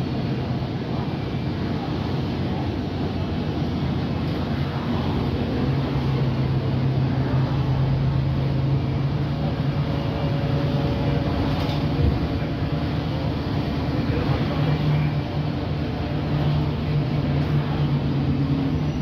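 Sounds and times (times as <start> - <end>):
bus engine drone: 0.0 - 19.0
road and tyre noise: 0.0 - 19.0.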